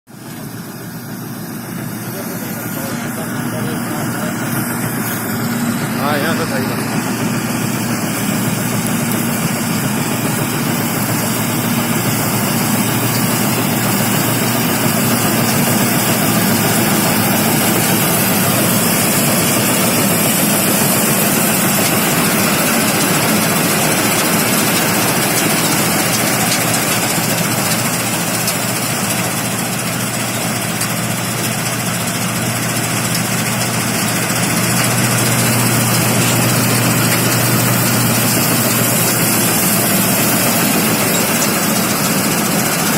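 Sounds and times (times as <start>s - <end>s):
diesel engine running: 0.1s - 42.9s.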